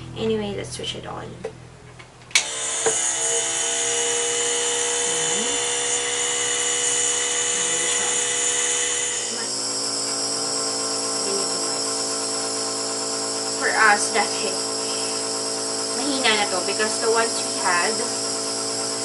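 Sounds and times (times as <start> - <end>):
compressor nebulizer motor hum: 2.3 - 19.0.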